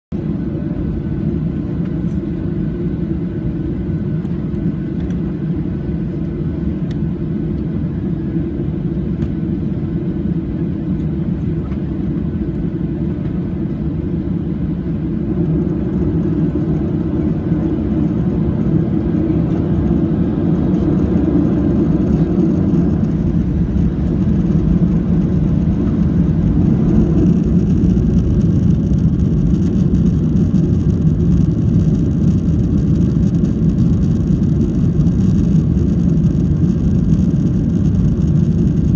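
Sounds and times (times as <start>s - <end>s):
jet engines rumbling in cabin: 0.1s - 38.9s.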